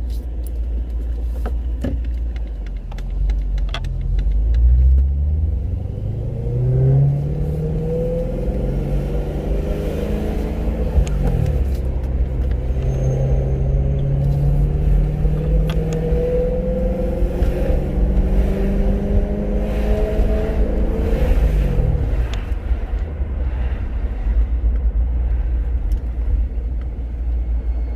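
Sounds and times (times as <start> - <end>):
car engine accelerating: 2.6 - 27.9.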